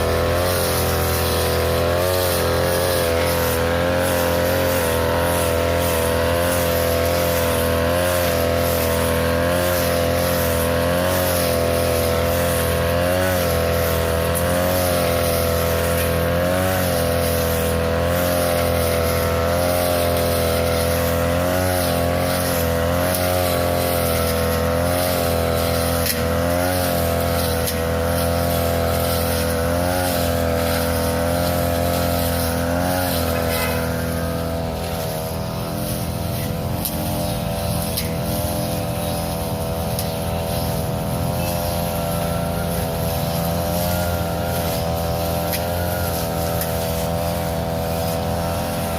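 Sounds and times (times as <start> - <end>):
grass cutter engine running: 0.0 - 48.9.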